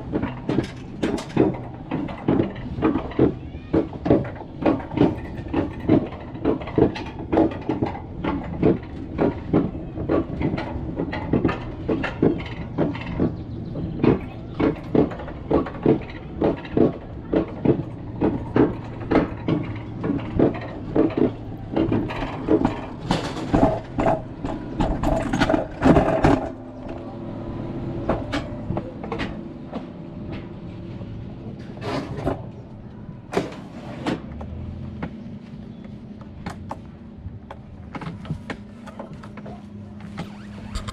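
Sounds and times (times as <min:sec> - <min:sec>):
sled rumbling on metal track: 0:00.0 - 0:40.9
wheels clacking over track joints: 0:00.0 - 0:40.9.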